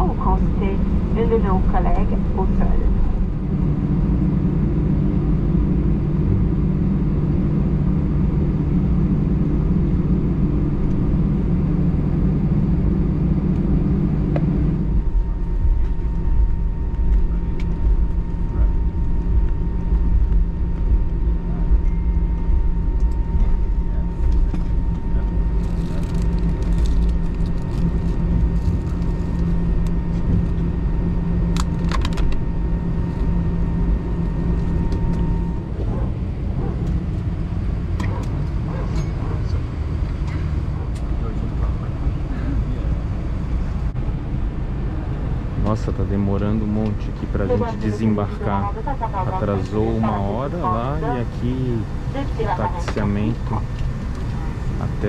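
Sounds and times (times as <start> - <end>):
airliner cabin engine drone: 0.0 - 55.0
thin steady whine: 0.0 - 55.0.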